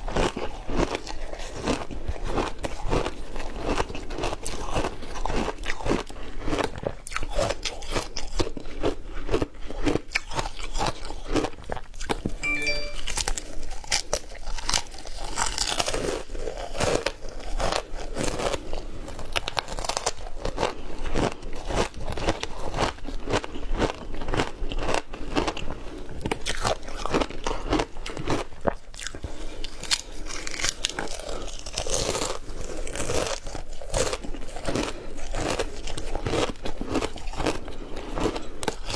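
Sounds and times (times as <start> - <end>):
frozen ice being bitten and chewed: 0.0 - 12.0, 15.4 - 38.9.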